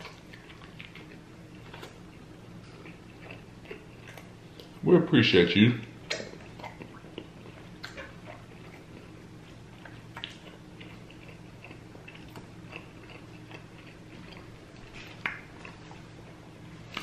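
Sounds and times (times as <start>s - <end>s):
wet chewing clicks and smacks: 0.0s - 4.8s, 6.0s - 17.0s
steady low hum: 0.0s - 17.0s.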